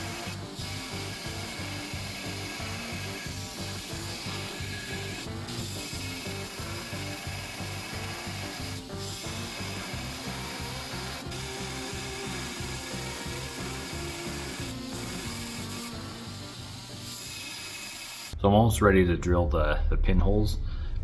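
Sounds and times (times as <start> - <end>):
music with rhythmic bass beat: 0.0 - 16.8.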